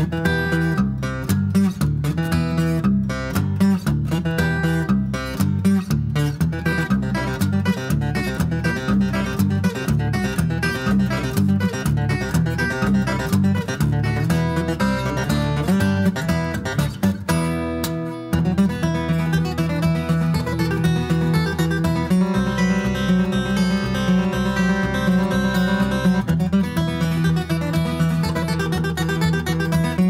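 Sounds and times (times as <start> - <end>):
fast acoustic guitar instrumental: 0.0 - 30.0.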